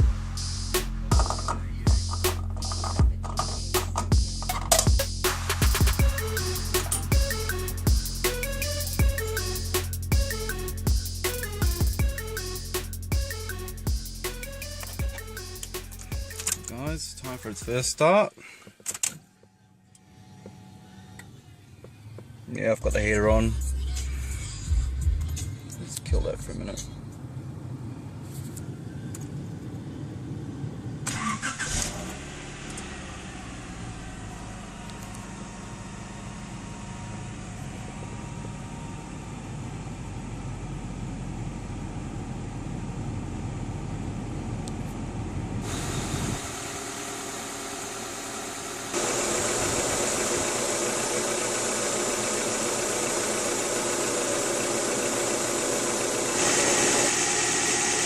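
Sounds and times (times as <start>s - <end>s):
car engine idling: 0.0s - 18.8s, 20.0s - 58.0s.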